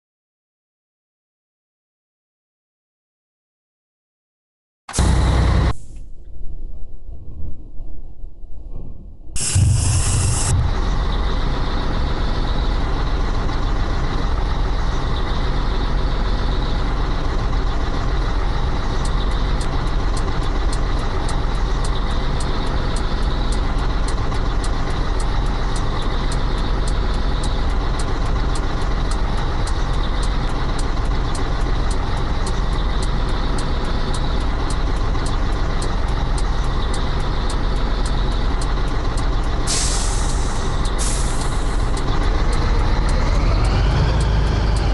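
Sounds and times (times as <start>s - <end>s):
truck diesel engine drone: 4.9s - 6.2s, 9.3s - 44.9s.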